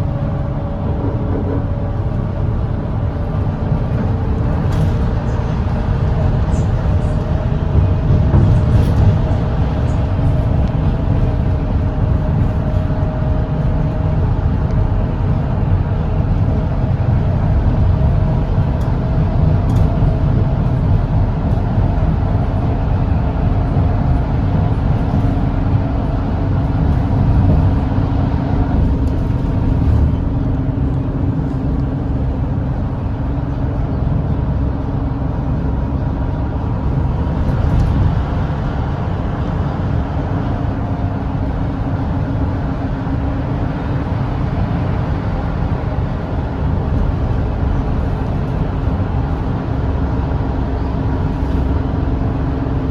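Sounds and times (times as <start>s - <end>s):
diesel bus engine drone: 0.0s - 52.9s
road noise: 0.0s - 52.9s.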